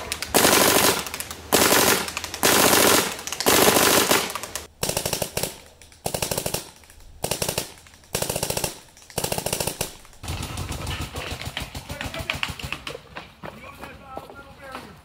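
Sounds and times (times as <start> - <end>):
paintball marker rapid firing: 0.0 - 13.0.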